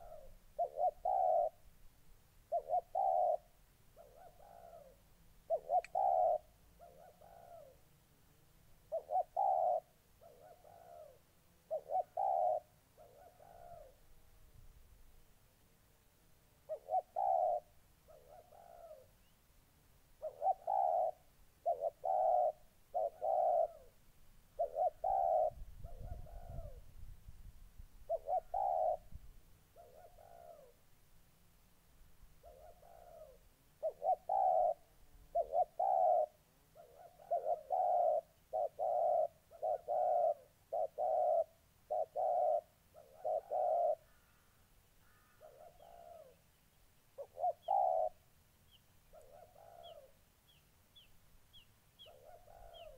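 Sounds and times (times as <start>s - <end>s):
dove cooing: 0.0s - 1.7s, 2.4s - 7.9s, 8.8s - 14.1s, 16.6s - 19.3s, 20.2s - 27.0s, 28.0s - 30.8s, 32.4s - 44.4s, 45.0s - 46.5s, 47.2s - 52.9s.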